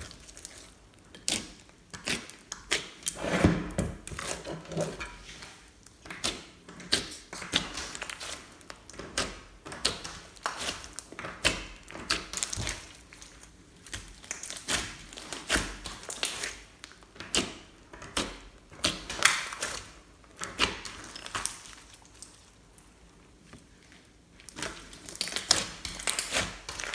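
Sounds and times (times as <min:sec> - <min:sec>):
slime squelching: 0:00.0 - 0:26.9.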